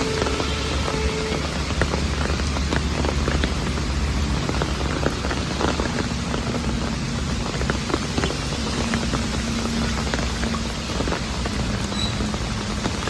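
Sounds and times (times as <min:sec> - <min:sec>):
rain drops ticking: 0:00.0 - 0:13.0
rain hiss: 0:00.0 - 0:13.0.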